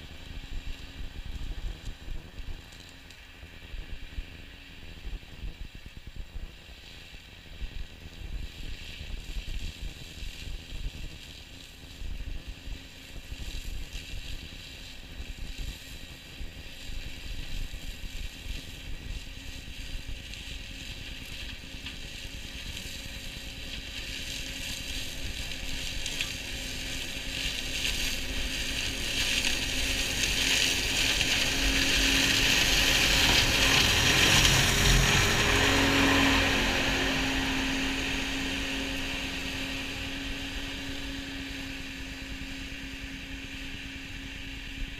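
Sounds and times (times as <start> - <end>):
tractor and flail hedge cutter running: 0.0 - 44.9.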